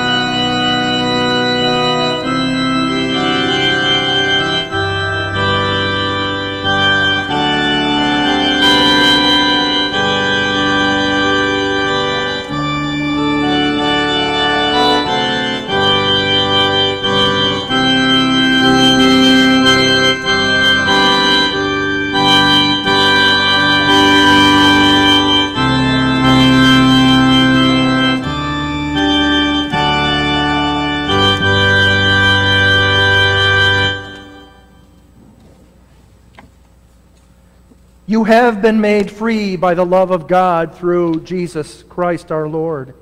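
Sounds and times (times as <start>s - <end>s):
organ playing held chords: 0.0s - 43.0s.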